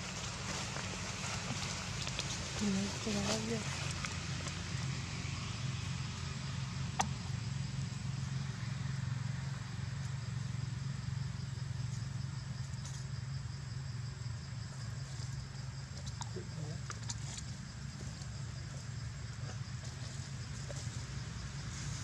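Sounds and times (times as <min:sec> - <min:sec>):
high pulsing insect trill: 0:00.0 - 0:22.0
low outdoor rumble: 0:00.0 - 0:22.0.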